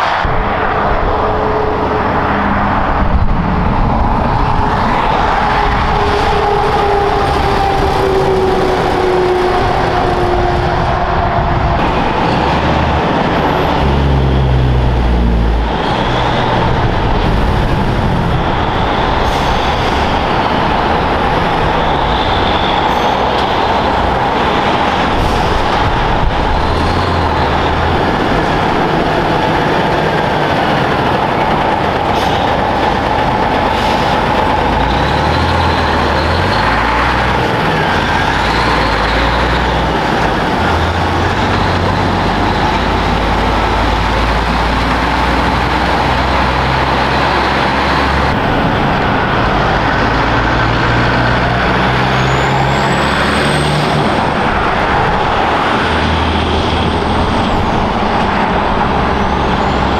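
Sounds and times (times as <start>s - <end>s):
heavy trucks and traffic passing: 0.0s - 59.9s.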